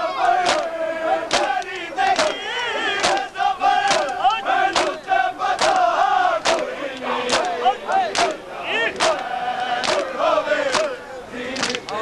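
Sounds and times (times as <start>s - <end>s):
men chanting and shouting: 0.0s - 12.0s.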